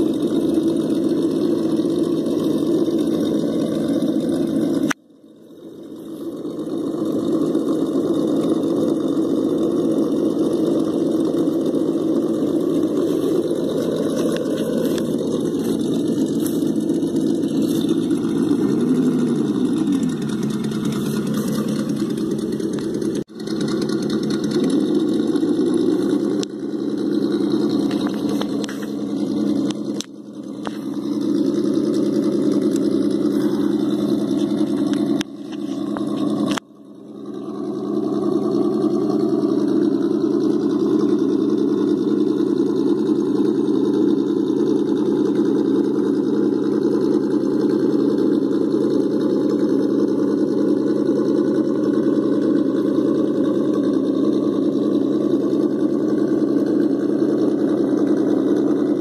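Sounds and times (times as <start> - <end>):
toy car motor hum: 0.0 - 59.0.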